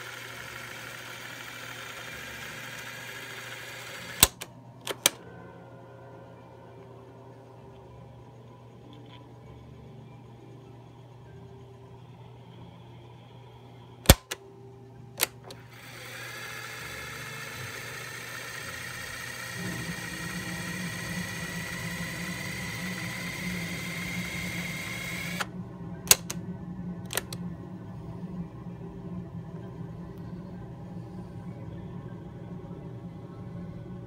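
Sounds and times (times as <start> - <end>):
tape motor hiss and whine: 0.0 - 34.0.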